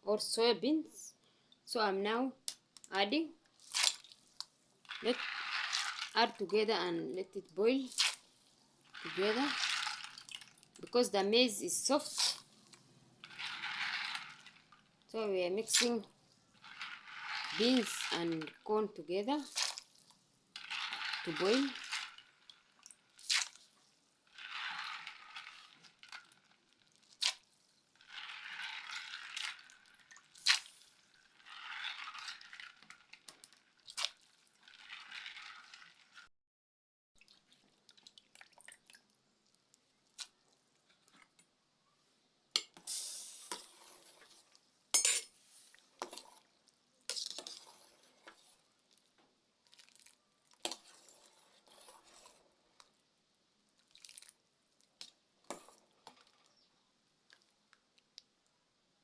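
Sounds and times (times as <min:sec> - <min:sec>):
food stirred in water: 0:03.4 - 0:06.7, 0:07.8 - 0:11.1, 0:11.8 - 0:36.3, 0:37.2 - 0:41.4, 0:43.5 - 0:58.8.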